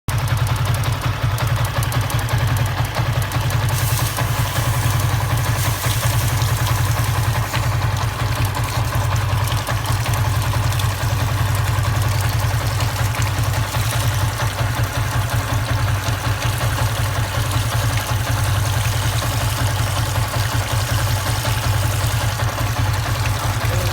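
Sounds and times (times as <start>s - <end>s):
motorcycle engine idling: 0.1s - 23.9s.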